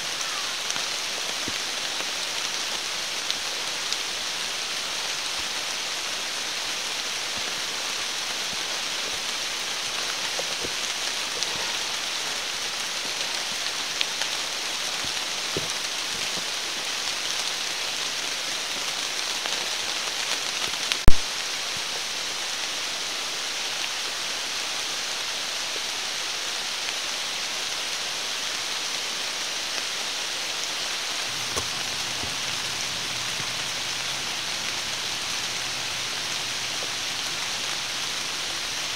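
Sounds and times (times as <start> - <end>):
rain falling through forest: 0.0 - 38.9.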